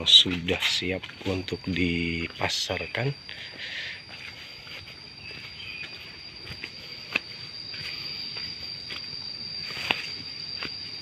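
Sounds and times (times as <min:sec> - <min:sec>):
footsteps on soil and grass: 0:00.0 - 0:11.0
high-pitched whine: 0:00.0 - 0:11.0.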